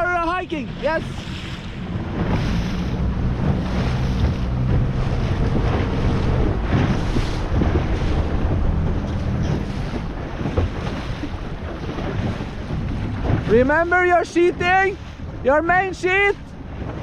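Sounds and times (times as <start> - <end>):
low motor hum: 0.0 - 17.0
water rushing and splashing: 0.0 - 17.0
wind buffeting microphone: 0.0 - 17.0.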